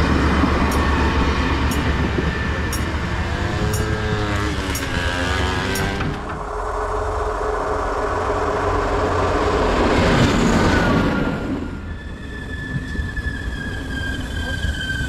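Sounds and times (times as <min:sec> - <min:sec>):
diesel train passing: 0:00.0 - 0:15.0
high wheel squeal: 0:00.5 - 0:15.0.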